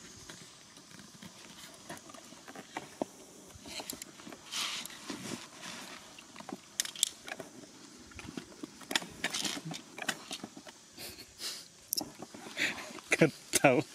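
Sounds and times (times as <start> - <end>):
rustling hiss: 0.0 - 13.9.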